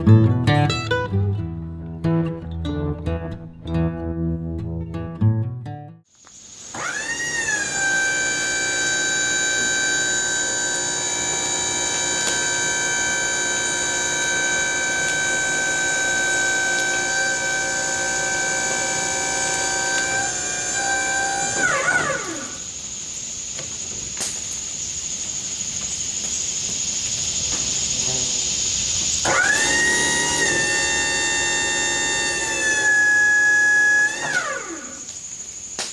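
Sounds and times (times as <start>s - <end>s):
noisy hiss with high tone: 6.1s - 35.9s
sawmill machinery whining: 6.2s - 24.4s, 25.2s - 35.9s.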